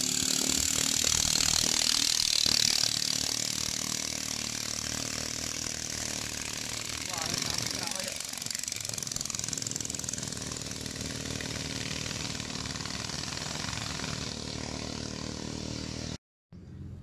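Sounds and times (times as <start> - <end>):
motorboat engine running fast: 0.0 - 17.0.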